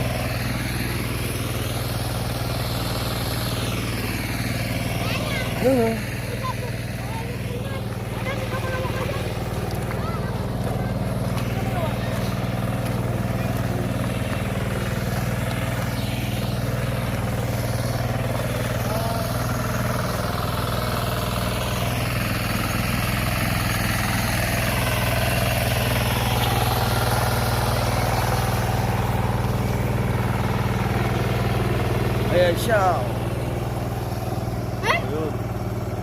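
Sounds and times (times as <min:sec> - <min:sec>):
hand tractor engine running: 0:00.0 - 0:36.0.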